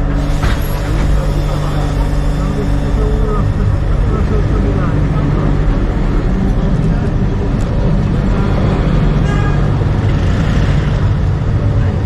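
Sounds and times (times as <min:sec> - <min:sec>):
tram rumbling along rails: 0:00.0 - 0:12.0.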